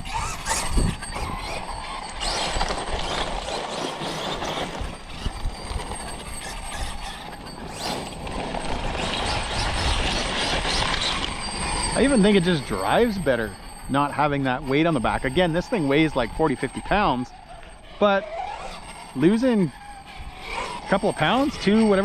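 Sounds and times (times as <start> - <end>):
toy truck driving on dirt: 0.0 - 22.0.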